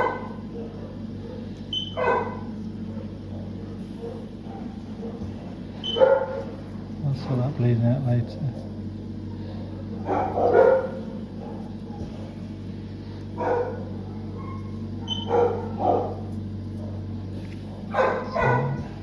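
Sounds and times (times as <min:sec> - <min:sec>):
dog barking: 0:00.0 - 0:06.6, 0:09.4 - 0:12.5, 0:13.3 - 0:19.0
steady low hum: 0:00.0 - 0:19.0.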